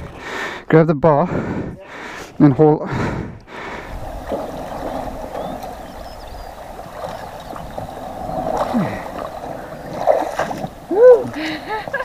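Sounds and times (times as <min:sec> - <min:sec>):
river water flowing and lapping: 0:01.5 - 0:12.0.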